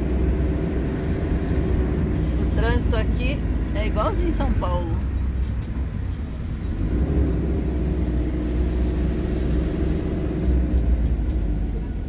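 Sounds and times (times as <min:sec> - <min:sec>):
motorhome engine rumble: 0:00.0 - 0:12.0
road noise: 0:00.0 - 0:12.0.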